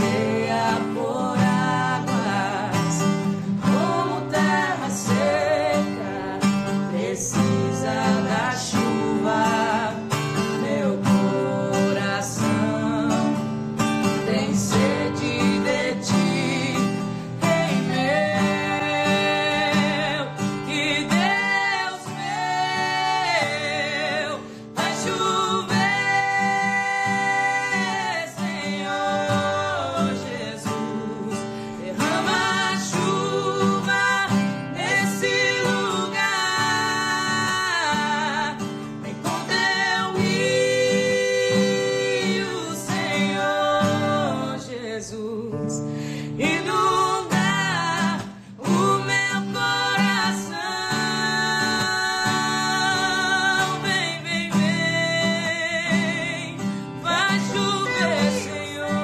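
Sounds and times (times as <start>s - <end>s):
guitar accompaniment: 0.0s - 59.0s
woman singing: 0.0s - 59.0s.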